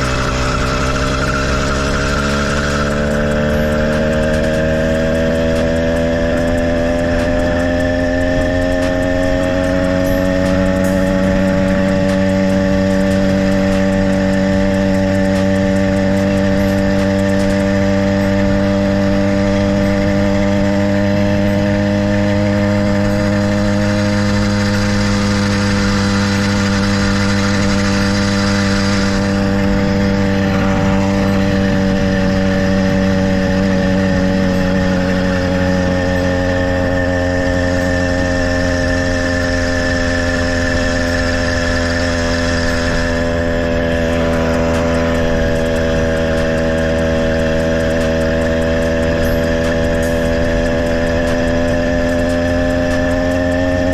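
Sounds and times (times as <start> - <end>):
small gas engine running: 0.0 - 53.9.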